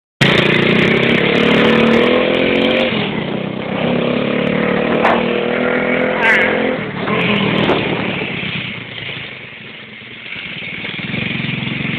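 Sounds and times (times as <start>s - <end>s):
motorcycle engine running: 0.2s - 11.9s.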